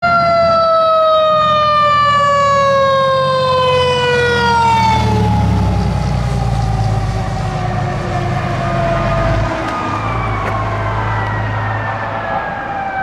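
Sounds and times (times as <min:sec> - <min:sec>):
fire truck siren: 0:00.0 - 0:13.0
truck engine rumble: 0:02.2 - 0:13.0.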